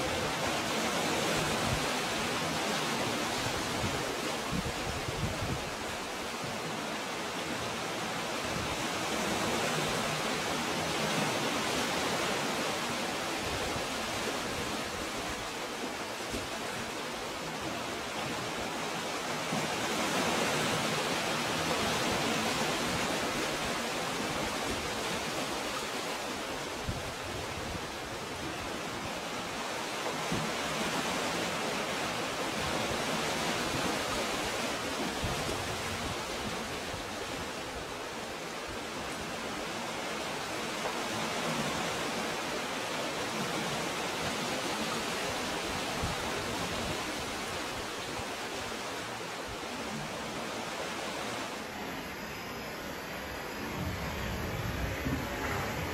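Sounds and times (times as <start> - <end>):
sea water rushing over stones: 0.0 - 55.9.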